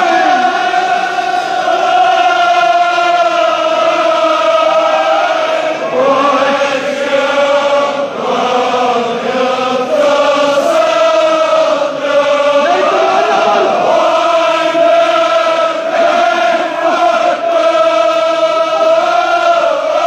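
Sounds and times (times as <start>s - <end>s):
crowd of men chanting: 0.0s - 20.0s.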